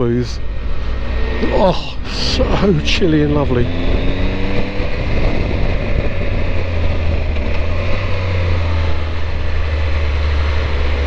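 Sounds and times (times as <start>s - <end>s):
motorcycle engine drone: 0.0s - 11.0s
road and wind noise: 0.0s - 11.0s.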